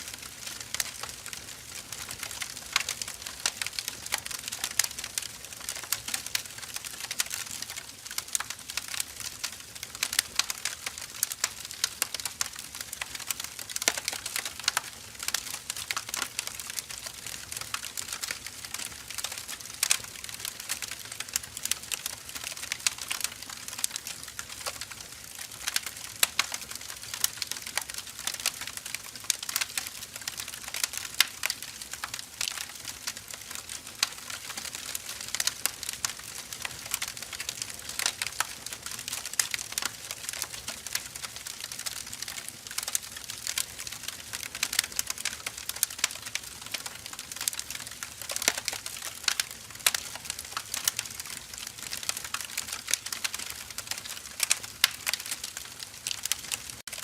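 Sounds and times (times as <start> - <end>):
firewood crackling: 0.0 - 57.0.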